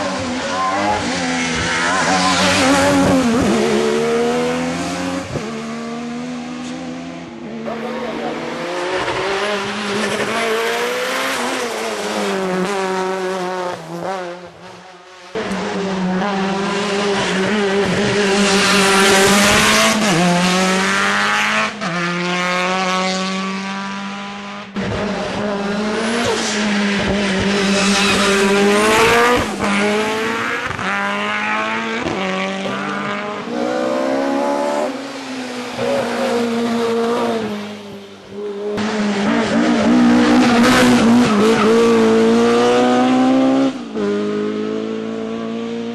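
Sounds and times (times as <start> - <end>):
race car engines revving: 0.0 - 45.9.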